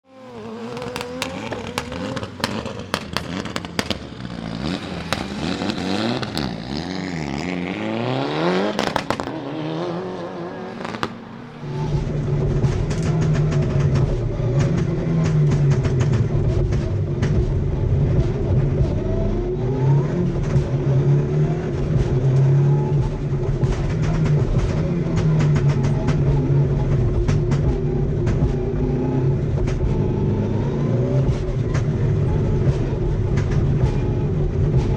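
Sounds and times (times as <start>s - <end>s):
rally car engine revving: 0.0s - 34.9s
anti-lag pops and bangs: 0.8s - 6.8s, 8.7s - 9.5s, 10.8s - 34.9s.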